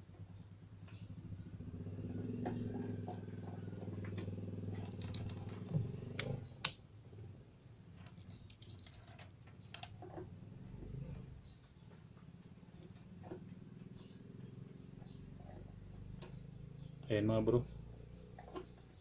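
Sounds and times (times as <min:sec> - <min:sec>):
low motor drone: 0:00.0 - 0:07.4, 0:10.2 - 0:11.6, 0:12.3 - 0:19.0.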